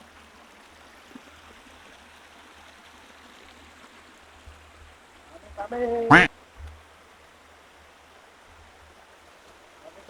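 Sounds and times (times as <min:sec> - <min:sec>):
faint river flowing: 0:00.0 - 0:10.0.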